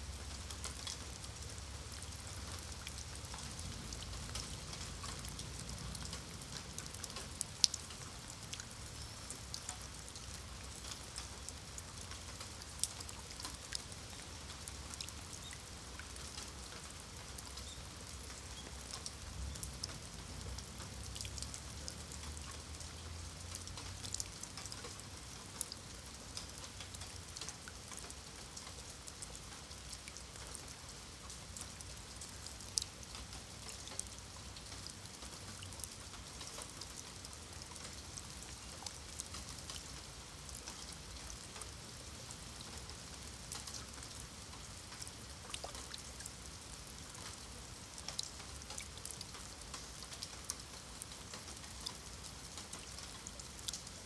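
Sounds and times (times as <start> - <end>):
rain pattering on stone: 0.0 - 54.0.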